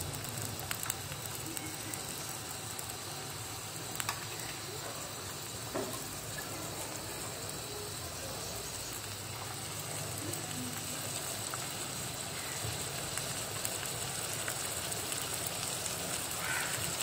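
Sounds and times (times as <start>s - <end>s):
onions sizzling in a pan: 0.0s - 17.0s
small pops of frying: 0.0s - 17.0s.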